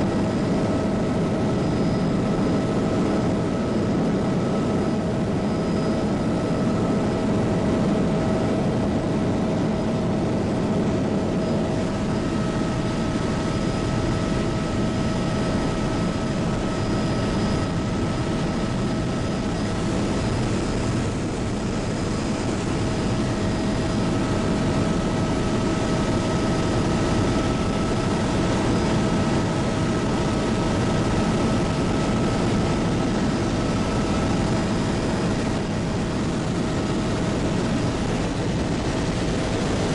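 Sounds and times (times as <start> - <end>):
helicopter rumble from cabin: 0.0 - 39.9
high turbine whine: 0.0 - 39.9.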